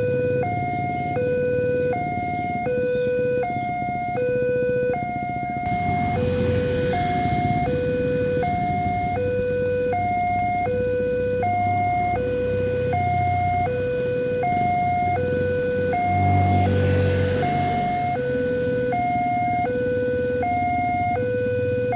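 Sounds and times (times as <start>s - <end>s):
level crossing two-tone alarm: 0.0s - 21.9s.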